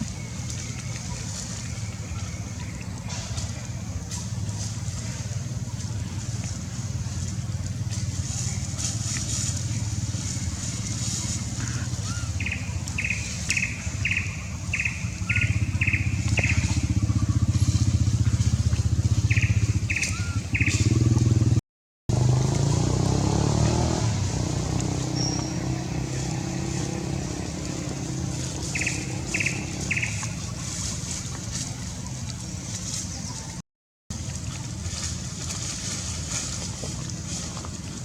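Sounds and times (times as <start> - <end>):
low engine hum: 0.0 - 38.0.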